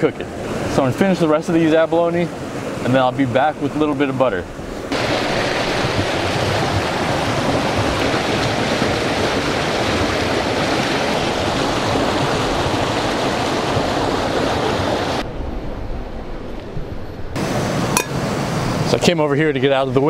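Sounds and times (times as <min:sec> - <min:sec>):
river rapid rushing: 0:00.0 - 0:15.3, 0:17.4 - 0:19.0.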